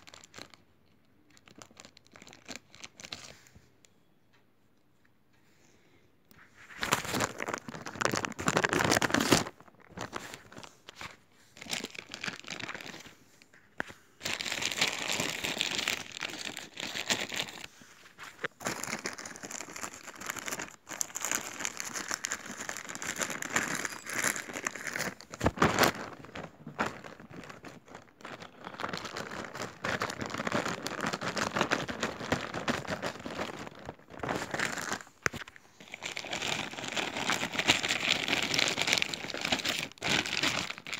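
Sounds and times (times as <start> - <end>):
plastic packaging crinkling: 1.3 - 3.3, 6.7 - 40.9.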